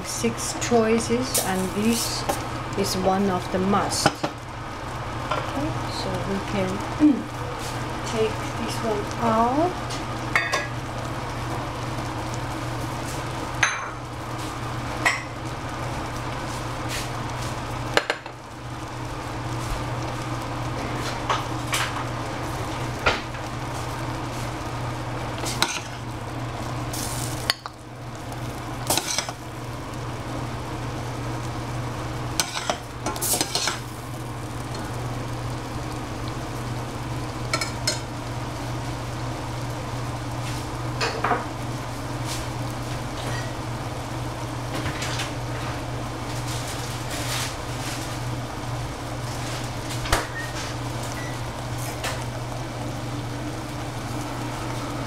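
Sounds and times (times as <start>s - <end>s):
liquid simmering and sizzling: 0.0s - 55.0s
steady low hum: 0.0s - 55.0s.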